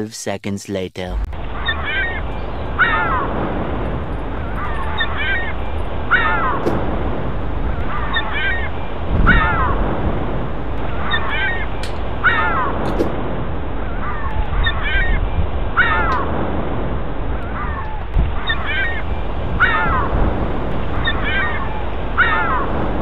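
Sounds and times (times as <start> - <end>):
gulls calling: 1.1 - 23.0
wind rumble: 1.1 - 23.0.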